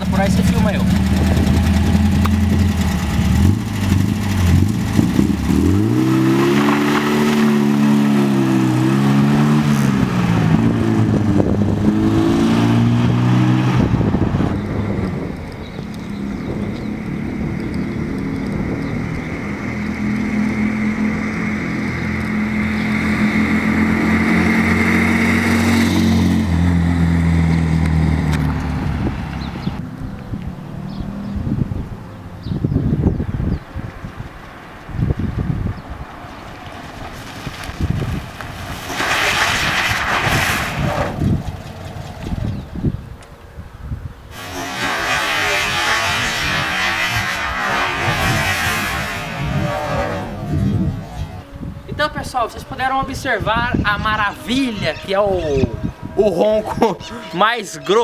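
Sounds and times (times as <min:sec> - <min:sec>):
car engine revving: 0:00.0 - 0:32.3, 0:36.3 - 0:43.0, 0:44.3 - 0:58.0.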